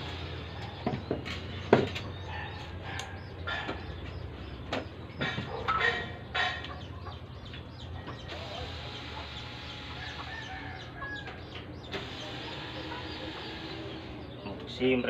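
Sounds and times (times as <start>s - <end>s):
chickens clucking: 0.0s - 15.0s
steady ambient noise: 0.0s - 15.0s.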